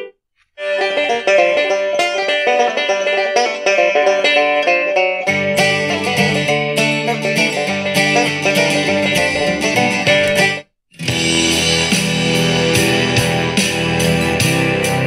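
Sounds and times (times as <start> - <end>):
bluegrass banjo and guitar music: 0.0 - 15.0.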